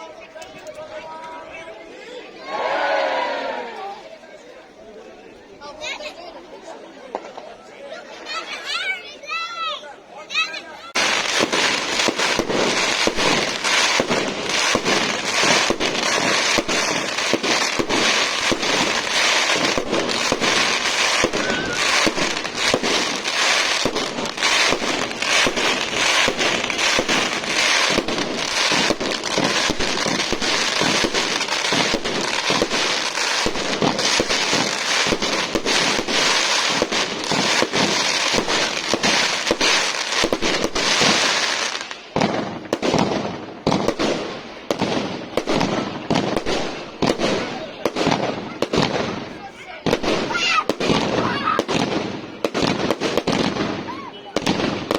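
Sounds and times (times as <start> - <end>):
fireworks crackling bangs: 7.0 - 7.7, 10.3 - 54.9.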